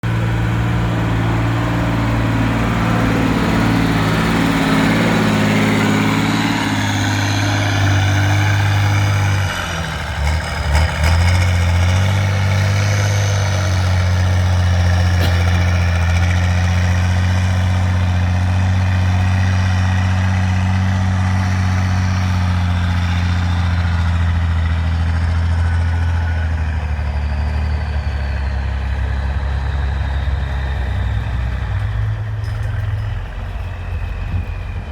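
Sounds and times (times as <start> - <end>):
heavy truck engine running: 0.0 - 34.9.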